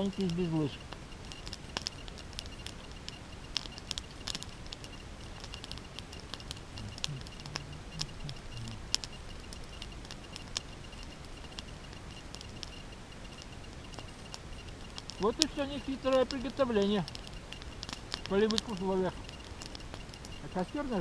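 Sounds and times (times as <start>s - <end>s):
campfire crackling and popping: 0.0s - 21.0s
faint steady high tone: 0.0s - 21.0s.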